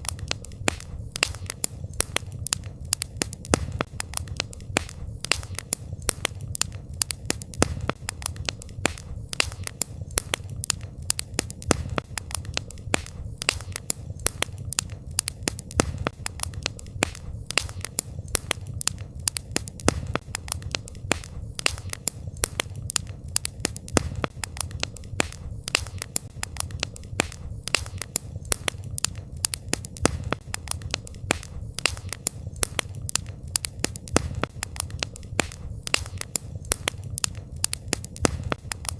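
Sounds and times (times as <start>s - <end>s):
campfire pops and snaps: 0.0s - 38.9s
low rush of flames: 0.0s - 38.9s.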